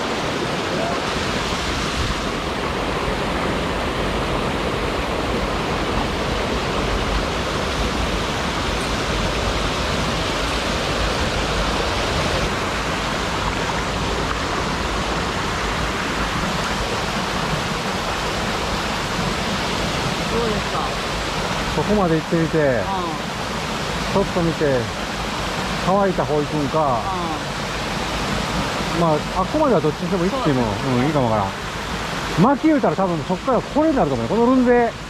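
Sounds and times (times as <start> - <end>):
stream rushing over boulders: 0.0 - 35.0.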